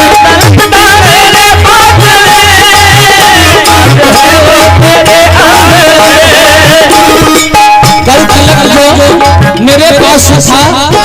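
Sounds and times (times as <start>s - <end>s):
steady drum beat: 0.0s - 11.0s
wavering devotional melody: 0.0s - 11.0s.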